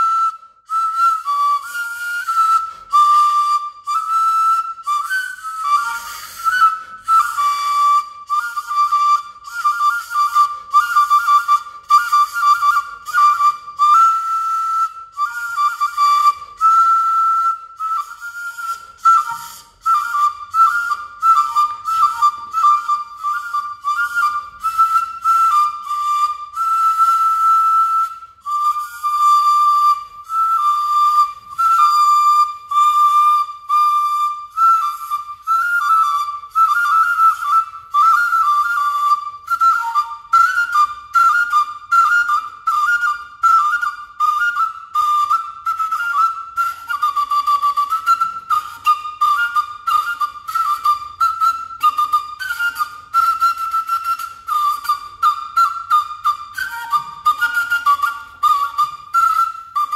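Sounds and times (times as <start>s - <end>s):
wooden flute tune: 0.0s - 59.9s.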